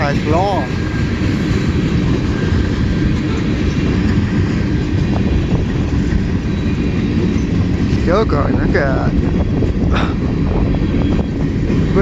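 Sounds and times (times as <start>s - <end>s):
train wheels on rail: 0.0s - 12.0s.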